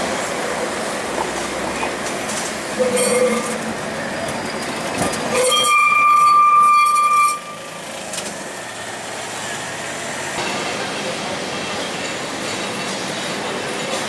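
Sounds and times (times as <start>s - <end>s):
tram running rumble: 0.0s - 14.0s
tram wheels squealing on rails: 1.3s - 14.0s.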